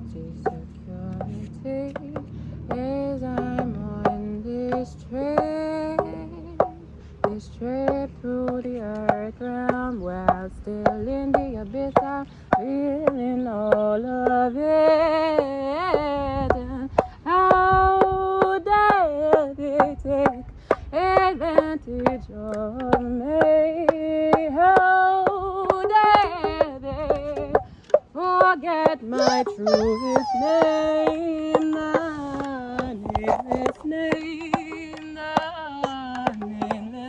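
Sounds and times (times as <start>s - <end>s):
woman singing wordless chant: 0.0s - 37.0s.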